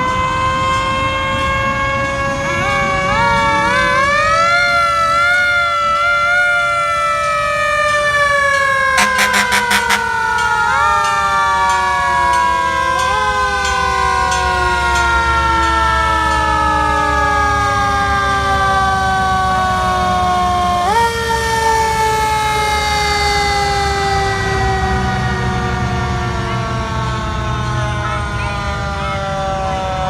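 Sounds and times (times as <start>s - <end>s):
fire truck sirens wailing: 0.0s - 30.0s
truck engines rumbling: 0.0s - 30.0s.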